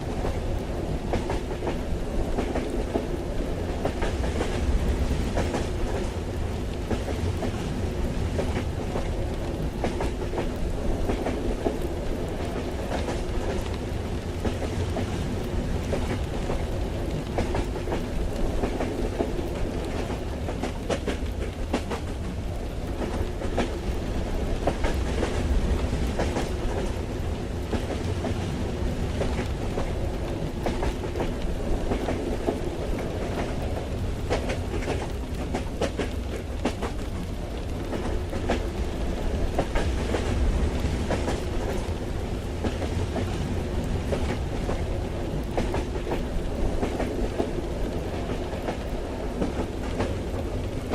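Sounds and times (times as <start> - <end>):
train low rumble: 0.0 - 50.9.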